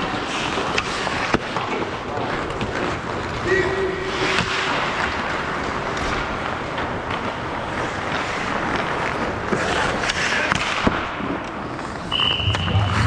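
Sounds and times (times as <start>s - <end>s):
hockey sticks and puck clacking: 0.0s - 12.8s
skate blades scraping ice: 0.0s - 13.0s.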